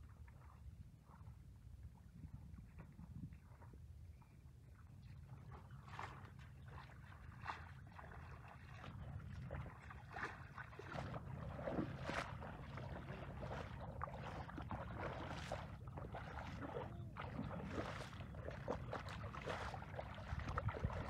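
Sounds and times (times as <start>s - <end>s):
feet splashing in shallow water: 0.0s - 21.0s.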